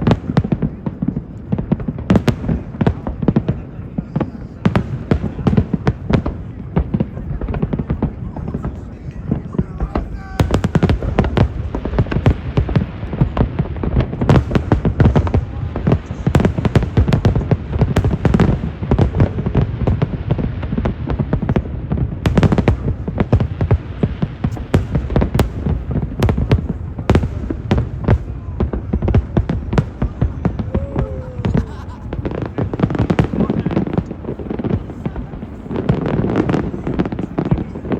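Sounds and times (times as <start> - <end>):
firework booms: 0.0 - 37.9
firework crackling bursts: 0.0 - 37.9.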